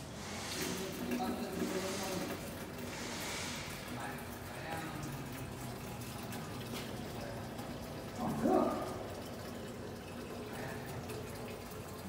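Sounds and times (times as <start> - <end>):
water running into a jug: 0.0 - 12.0.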